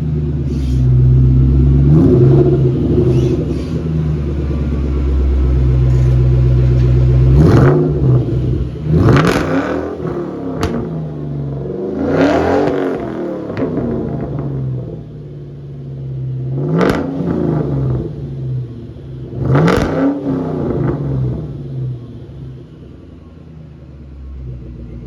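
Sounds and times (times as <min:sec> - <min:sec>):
car engine revving and idling: 0:00.0 - 0:25.0.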